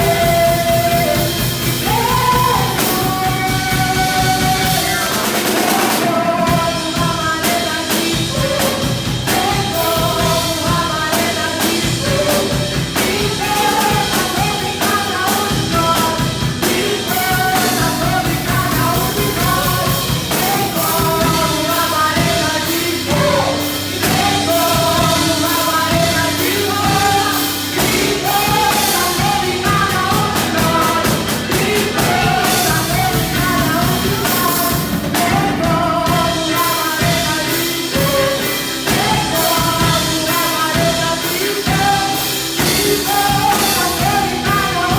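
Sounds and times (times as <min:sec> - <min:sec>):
bass guitar: 0:00.0 - 0:44.9
drum kit: 0:00.0 - 0:44.9
electric guitar: 0:00.0 - 0:44.9
singing: 0:00.0 - 0:44.9.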